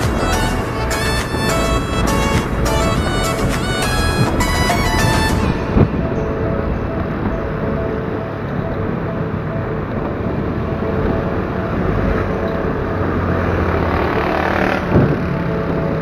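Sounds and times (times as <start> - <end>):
motorcycle engine hum: 0.0 - 16.0
wind and road noise: 0.0 - 16.0.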